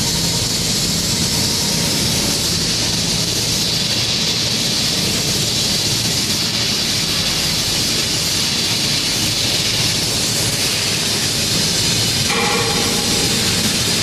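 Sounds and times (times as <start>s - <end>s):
welding arc hissing: 0.0s - 14.0s.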